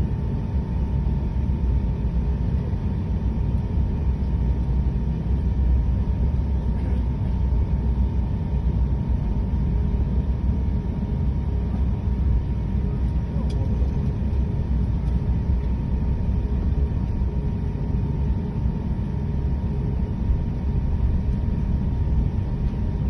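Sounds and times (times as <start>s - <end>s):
aircraft cabin low rumble: 0.0s - 23.0s
faint high hum: 0.0s - 23.0s.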